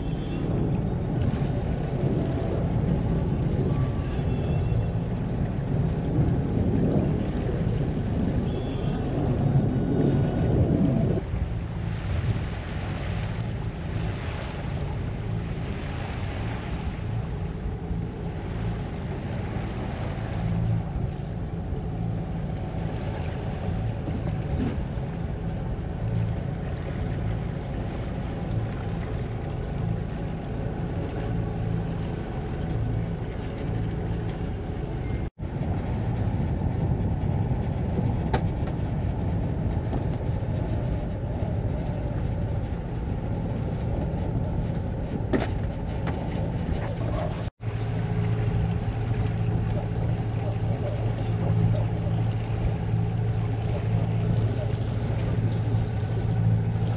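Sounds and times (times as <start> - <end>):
boat engine drone: 0.0 - 56.9
rushing water: 0.0 - 56.9.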